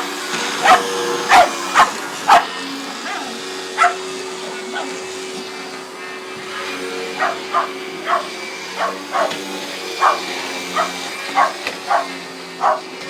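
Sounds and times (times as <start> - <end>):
vacuum cleaner humming: 0.0 - 13.0
dog barking: 0.5 - 5.4, 7.1 - 13.0.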